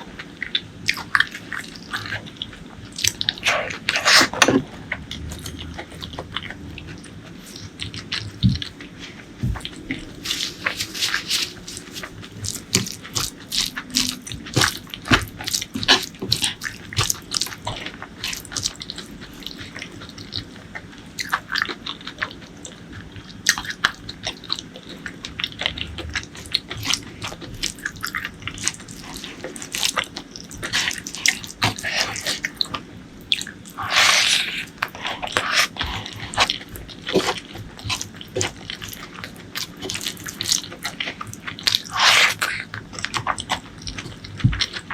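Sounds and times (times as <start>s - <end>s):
wet chewing: 0.0s - 44.9s.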